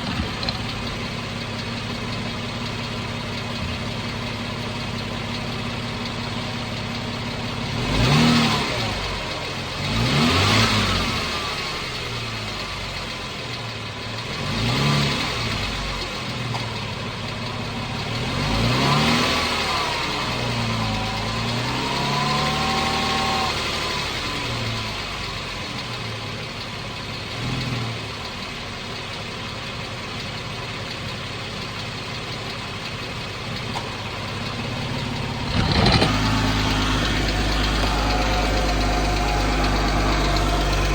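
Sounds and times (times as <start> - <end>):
engine idling and revving: 0.0 - 40.9.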